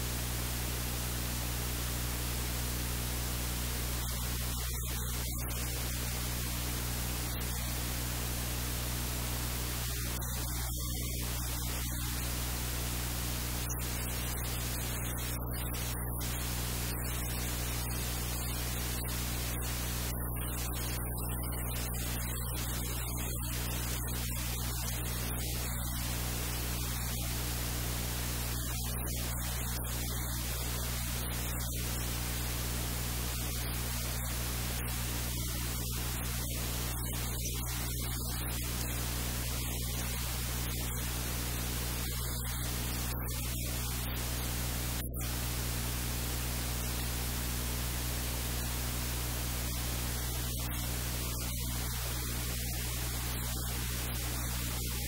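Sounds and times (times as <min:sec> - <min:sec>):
static hiss: 0:00.0 - 0:55.0.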